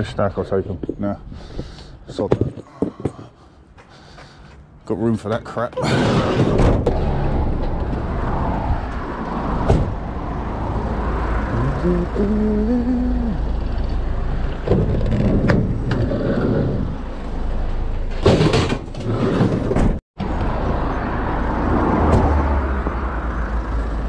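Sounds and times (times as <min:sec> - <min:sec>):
vehicle rumble: 0:00.0 - 0:24.0.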